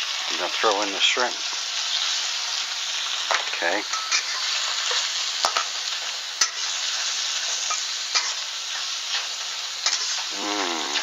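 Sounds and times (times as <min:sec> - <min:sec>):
shrimp sizzling in a wok: 0:00.0 - 0:11.0.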